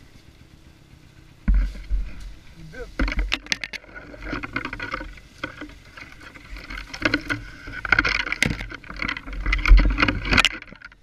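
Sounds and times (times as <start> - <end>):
branches scraping against helmet: 0.0 - 11.0
dirt bike engine at low revs: 0.0 - 11.0.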